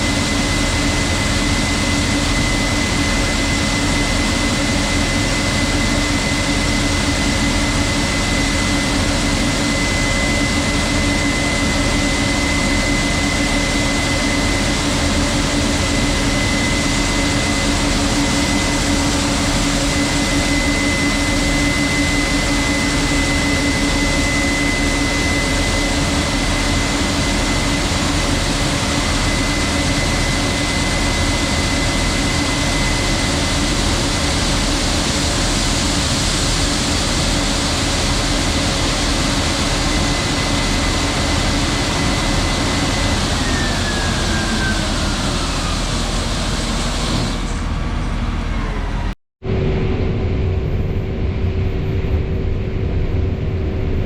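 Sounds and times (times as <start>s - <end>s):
combine harvester drone: 0.0s - 54.0s
constant high machine whine: 0.0s - 54.0s.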